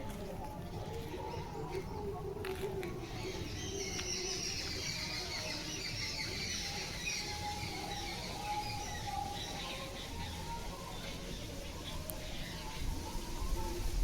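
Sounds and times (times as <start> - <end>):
birds twittering: 0.2 - 14.0.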